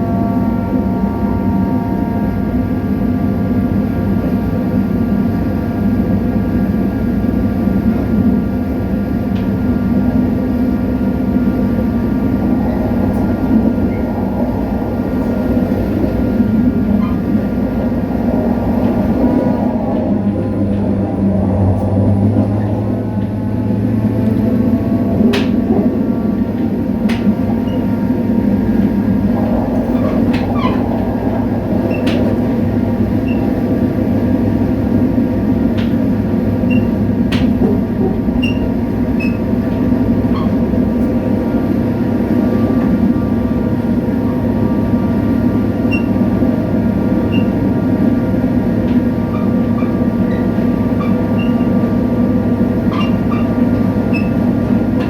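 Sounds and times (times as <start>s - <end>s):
diesel locomotive engine humming: 0.0s - 55.0s.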